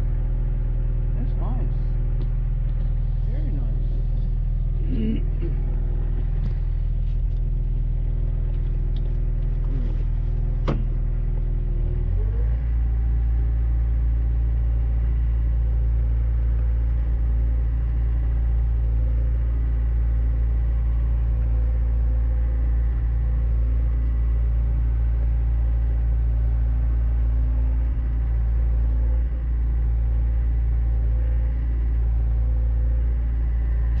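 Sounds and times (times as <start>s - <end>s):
diesel engine rumbling: 0.0s - 34.0s.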